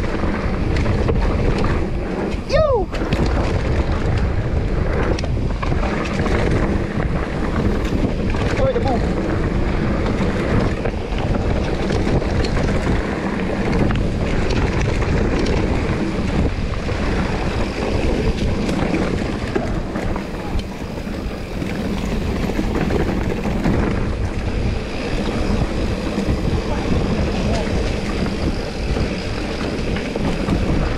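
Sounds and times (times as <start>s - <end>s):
bike clicking and rattling: 0.0s - 30.9s
tyres rumbling on dirt: 0.0s - 30.9s
wind buffeting microphone: 0.0s - 30.9s.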